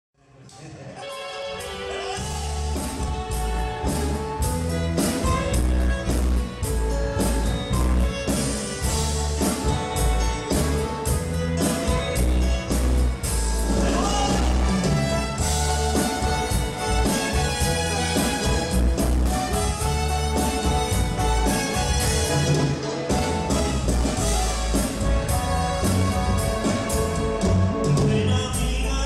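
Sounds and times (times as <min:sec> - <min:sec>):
cumbia band playing: 0:00.8 - 0:29.0
strong bass line: 0:02.1 - 0:29.0
steady drum beat: 0:02.2 - 0:28.9.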